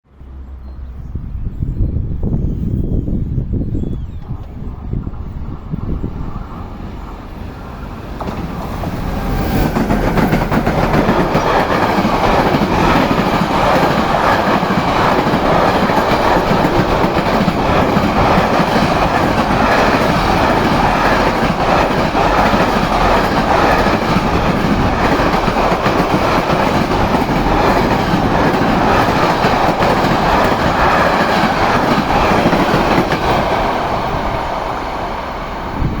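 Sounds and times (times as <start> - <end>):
freight train passing: 0.1 - 36.0.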